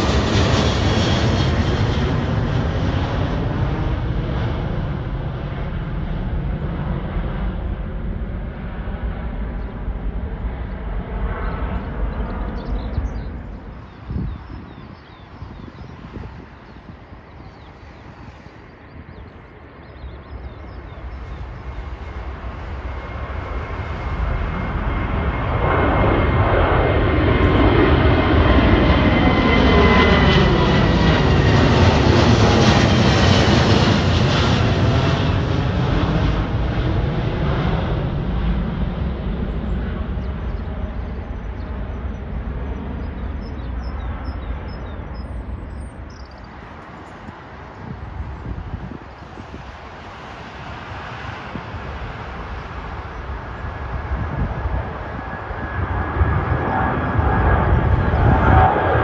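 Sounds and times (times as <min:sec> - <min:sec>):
jet airliner passing overhead: 0:00.0 - 0:59.0
jet engine whine: 0:00.0 - 0:59.0.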